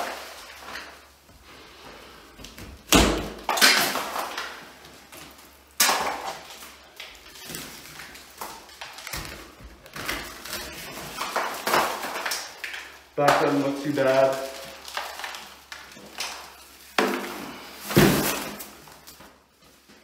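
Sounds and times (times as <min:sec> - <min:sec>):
drywall cracking: 0:00.0 - 0:01.2, 0:02.4 - 0:19.4.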